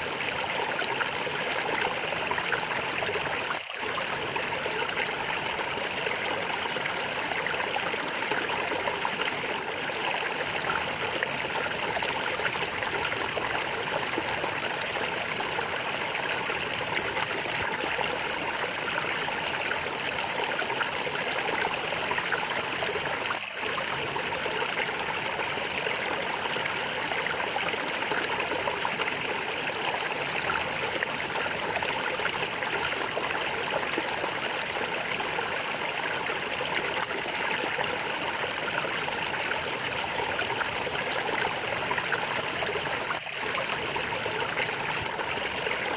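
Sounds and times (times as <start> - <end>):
stream water gurgling: 0.0 - 45.9.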